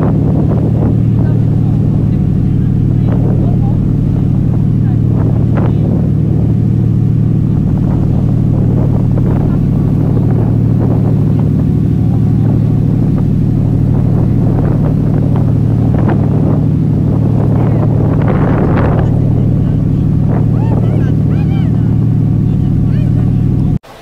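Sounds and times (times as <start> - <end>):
ship engines droning: 0.0 - 24.0
wake rushing along hull: 0.0 - 24.0.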